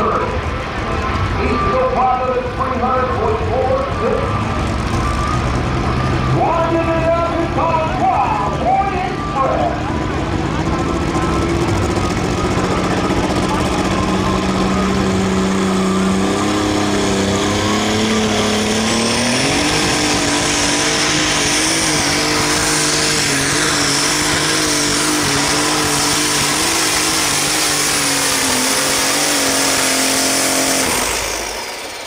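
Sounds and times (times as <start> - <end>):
high whine: 0.0 - 32.0
tractor engine revving: 0.0 - 32.0.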